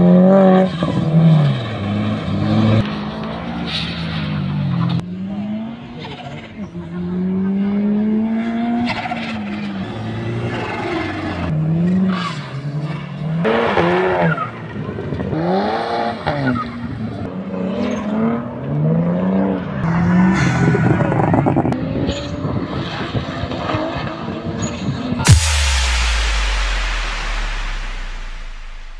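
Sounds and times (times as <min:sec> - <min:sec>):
rally car engines revving: 0:00.0 - 0:25.3.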